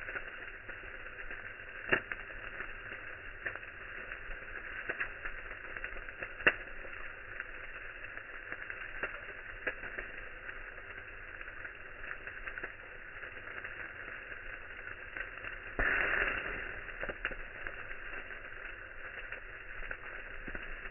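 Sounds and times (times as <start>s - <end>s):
campfire crackling and popping: 0.0s - 20.9s.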